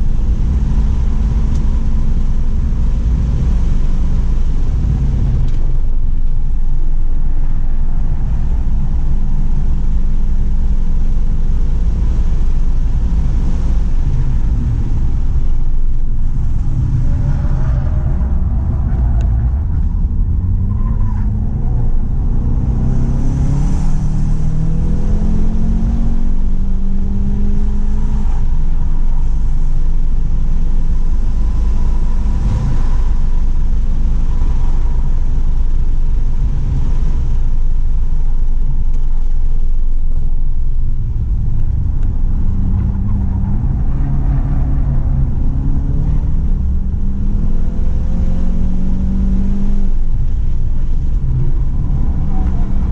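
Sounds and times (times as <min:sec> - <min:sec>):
car engine accelerating hard: 0:00.0 - 0:52.9
road and wind rumble: 0:00.0 - 0:52.9.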